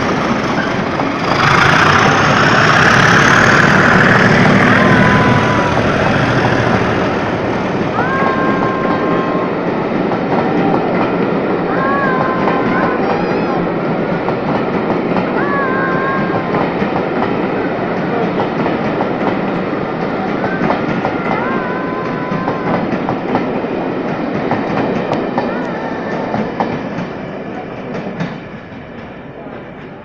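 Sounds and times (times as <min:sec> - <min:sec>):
train coaches rumbling past: 0:00.0 - 0:30.0.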